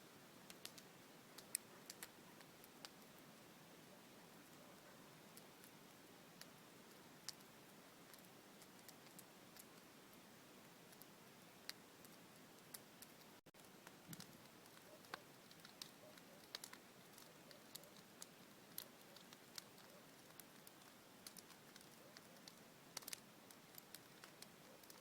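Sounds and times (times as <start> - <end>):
low steady hiss: 0.0 - 25.0
bonfire crackling and popping: 0.2 - 25.0.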